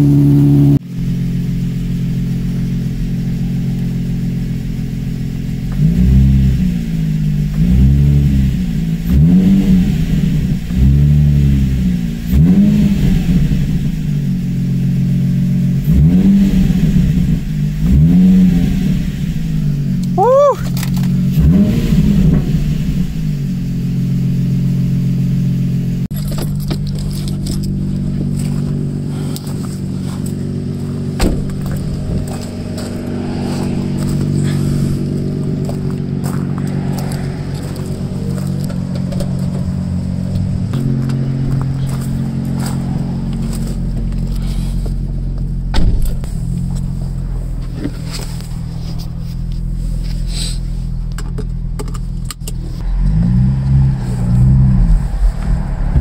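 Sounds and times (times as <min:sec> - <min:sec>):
engine revving: 0:00.0 - 0:26.2, 0:26.8 - 0:50.8, 0:51.6 - 0:56.0
car engine idling: 0:00.0 - 0:56.0.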